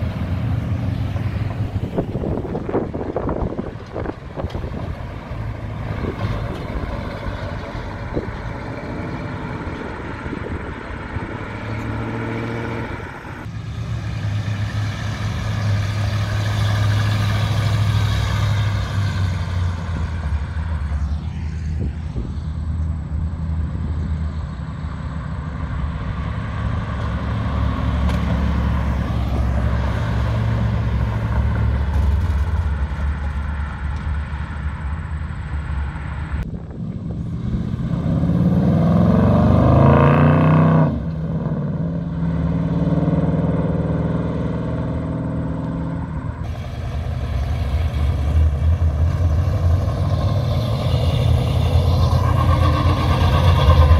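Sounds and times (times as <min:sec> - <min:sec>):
cars driving past rumbling: 0:00.0 - 0:53.9.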